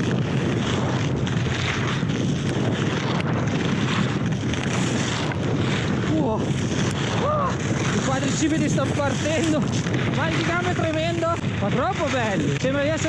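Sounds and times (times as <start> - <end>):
skis carving on snow: 0.0 - 13.0
wind rushing over microphone: 0.0 - 13.0.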